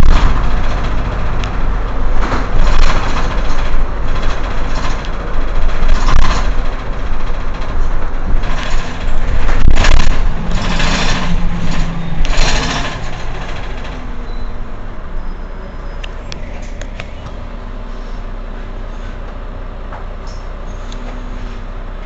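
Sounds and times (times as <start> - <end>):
bus diesel engine idling: 0.0 - 22.0.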